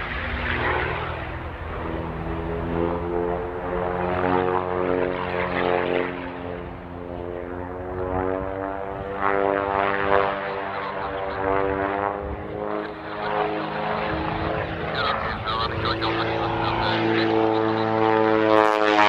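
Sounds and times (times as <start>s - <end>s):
propeller plane engine: 0.0s - 19.0s.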